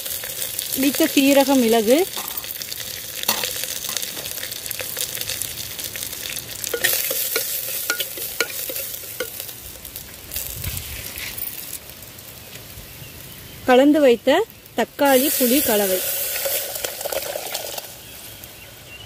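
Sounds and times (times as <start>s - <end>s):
spices sizzling in hot oil: 0.0s - 19.0s.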